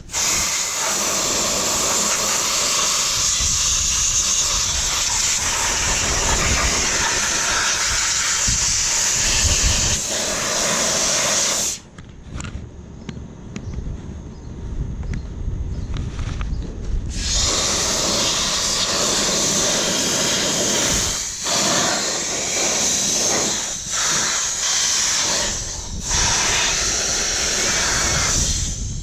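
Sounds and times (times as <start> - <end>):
compressed air hissing: 0.0 - 11.9, 17.1 - 29.0.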